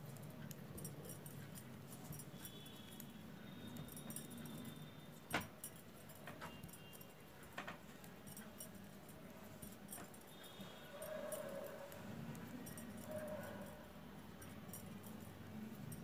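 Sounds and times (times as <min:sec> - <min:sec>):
knitting needles clicking: 0:00.0 - 0:16.0.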